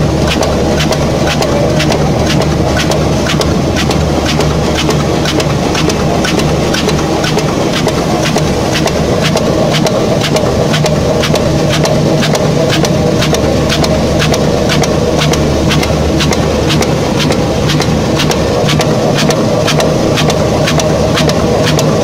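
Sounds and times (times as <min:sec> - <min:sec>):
machine clicking: 0:00.0 - 0:22.0
machine humming: 0:00.0 - 0:22.0.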